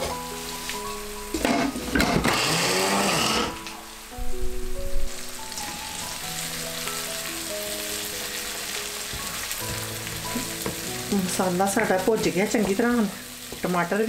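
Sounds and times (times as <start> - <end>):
masala sizzling in hot oil: 0.0 - 14.0
soft background melody: 0.0 - 14.0.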